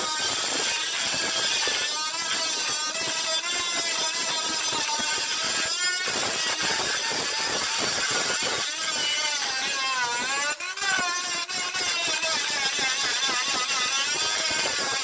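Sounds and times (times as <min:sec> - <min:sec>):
rotary tool grinding metal: 0:00.0 - 0:15.0.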